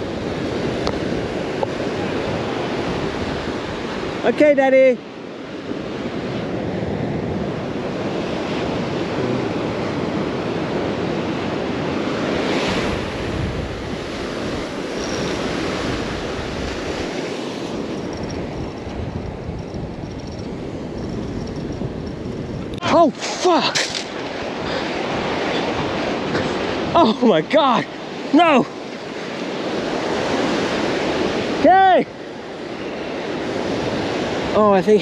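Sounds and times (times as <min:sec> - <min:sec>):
surf washing onto beach: 0:00.0 - 0:35.0
wind buffeting microphone: 0:05.5 - 0:35.0.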